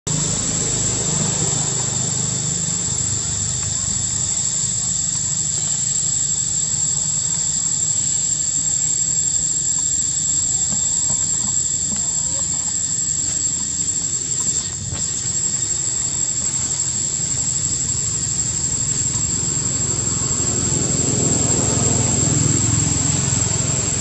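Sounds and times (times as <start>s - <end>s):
high-pitched insect drone: 0.1s - 24.0s.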